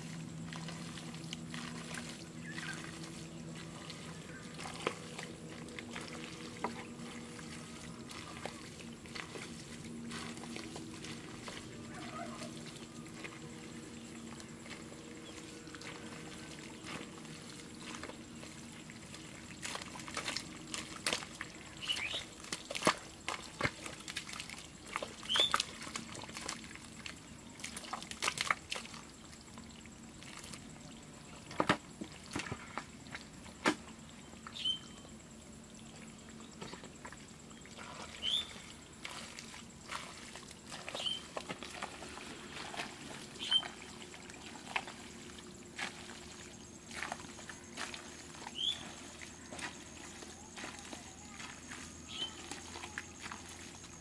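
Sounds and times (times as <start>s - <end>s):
hands squelching in wet mud: 0.0s - 31.0s, 36.6s - 54.0s.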